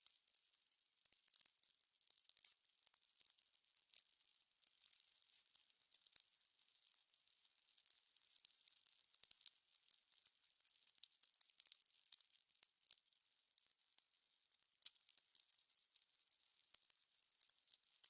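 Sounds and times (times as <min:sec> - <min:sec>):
fire crackling and popping: 0:01.1 - 0:18.0.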